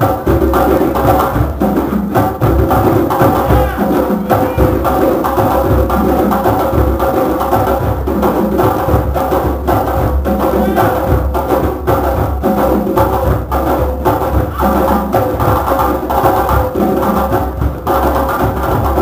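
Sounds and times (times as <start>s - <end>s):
drum circle playing: 0.0s - 19.0s.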